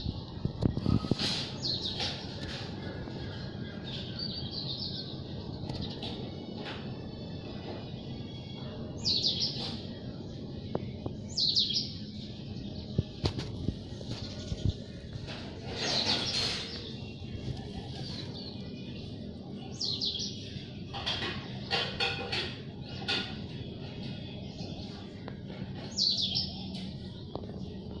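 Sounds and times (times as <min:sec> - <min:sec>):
birds chirping: 0:00.8 - 0:28.0.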